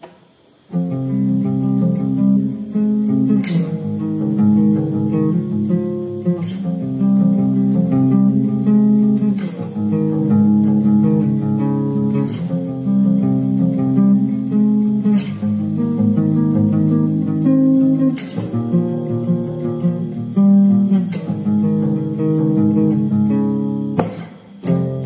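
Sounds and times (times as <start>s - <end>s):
fingerstyle acoustic guitar: 0.7s - 25.0s.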